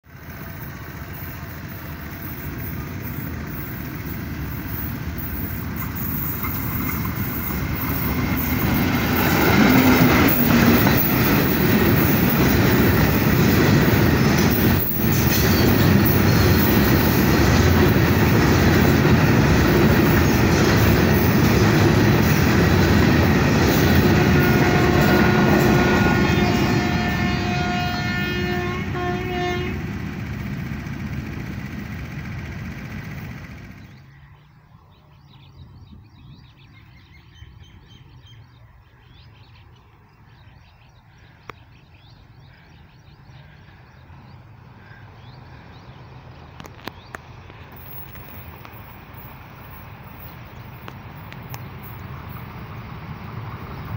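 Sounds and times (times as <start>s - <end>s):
train wheels on rails: 0.0s - 34.2s, 41.4s - 53.9s.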